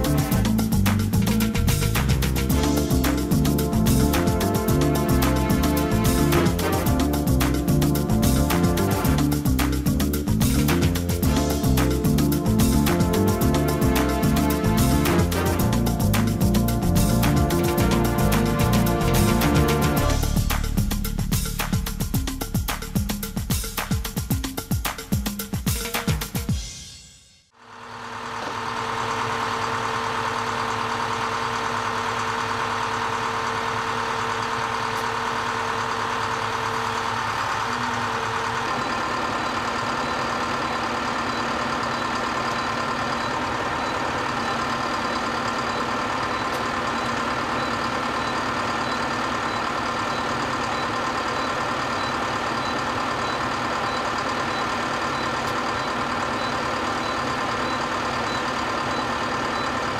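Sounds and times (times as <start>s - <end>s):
tractor and farm machine running: 0.0s - 20.8s, 27.8s - 59.9s.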